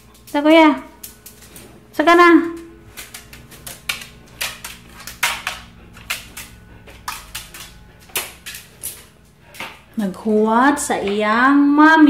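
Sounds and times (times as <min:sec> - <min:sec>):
footsteps on tiled stairs: 0:00.0 - 0:11.5.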